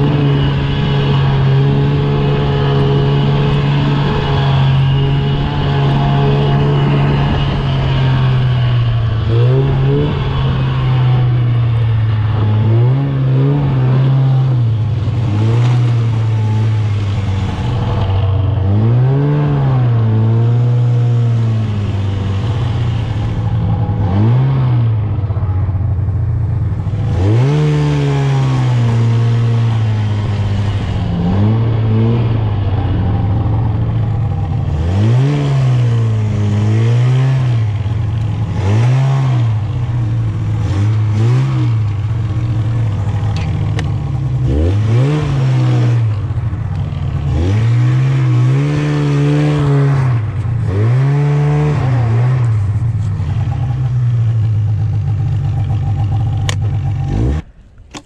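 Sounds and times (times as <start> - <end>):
snowmobile engine revving: 0.0 - 57.7.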